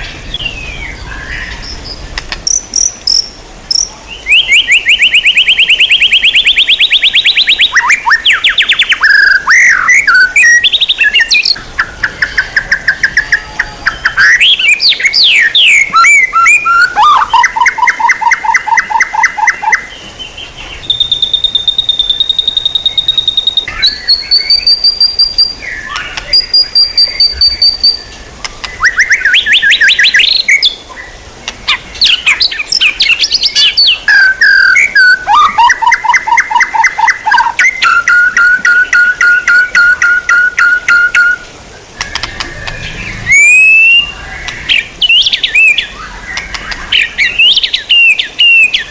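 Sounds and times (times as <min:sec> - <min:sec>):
songbird trills and whistles: 0:00.0 - 0:20.0, 0:20.6 - 0:30.8, 0:31.7 - 0:48.9.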